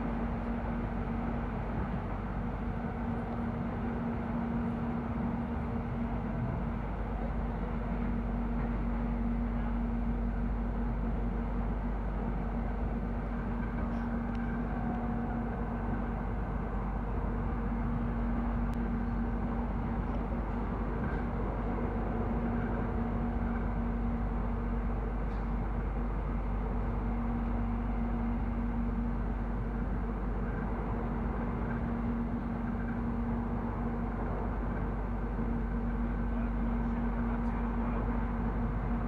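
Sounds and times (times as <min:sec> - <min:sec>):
constant hum: 0:00.0 - 0:39.0
train wheels rumbling on track: 0:00.0 - 0:39.0.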